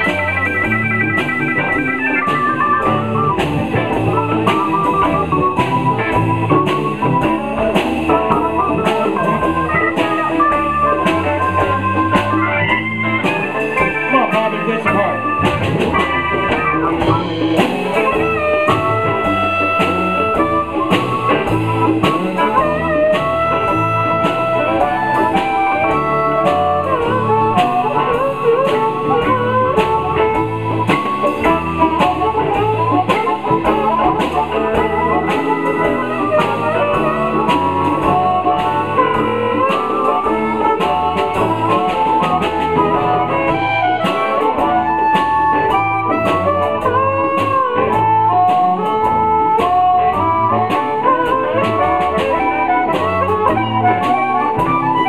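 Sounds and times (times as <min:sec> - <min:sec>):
blues band playing: 0:00.0 - 0:55.0
wavering lead guitar notes: 0:00.0 - 0:55.0.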